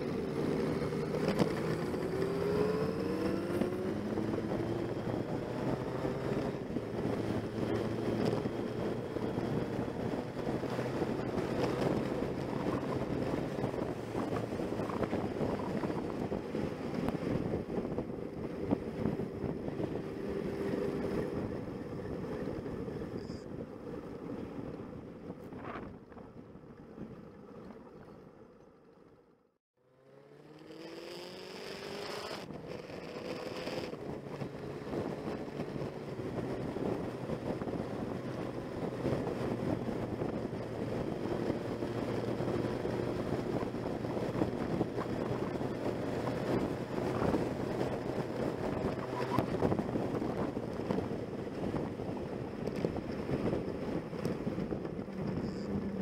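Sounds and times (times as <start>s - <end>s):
motorcycle engine: 0.0s - 26.0s, 29.8s - 56.0s
wind rushing over microphone: 0.0s - 27.5s, 30.4s - 56.0s.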